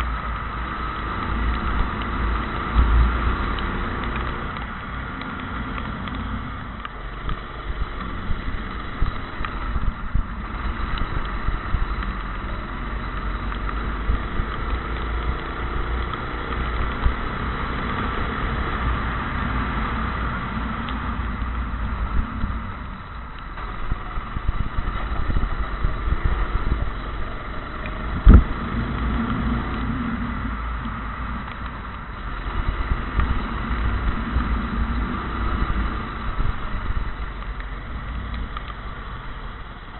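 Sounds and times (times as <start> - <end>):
go-kart engine revving: 0.0 - 39.9
wind and track rumble: 0.0 - 39.9.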